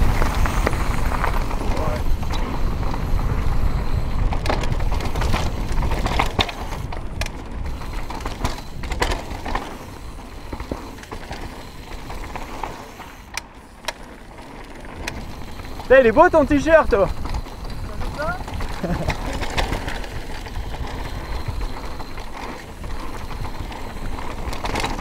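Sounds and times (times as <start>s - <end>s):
wind rumble on microphone: 0.0s - 10.5s, 15.0s - 25.0s
bike clicks and rattles: 0.0s - 25.0s
bike tyres rolling over gravel: 0.0s - 25.0s.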